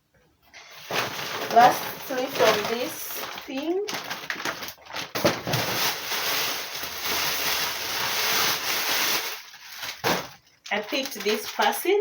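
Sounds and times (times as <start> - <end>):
plastic packaging crinkling: 0.7 - 12.0.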